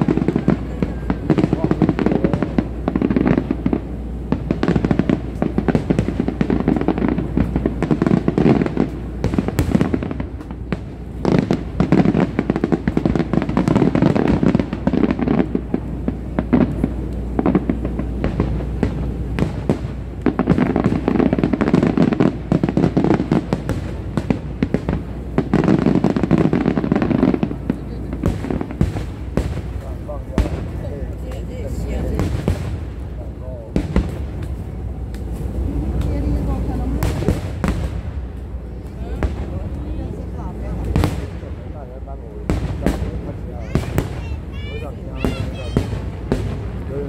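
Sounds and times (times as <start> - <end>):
fireworks bursting and crackling: 0.0 - 47.0.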